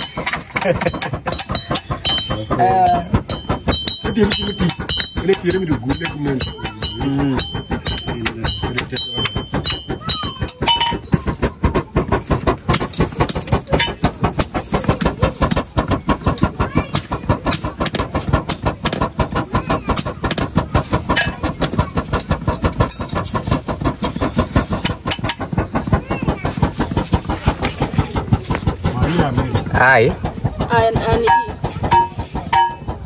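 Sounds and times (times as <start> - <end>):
forge bellows puffing air: 0.0 - 33.0.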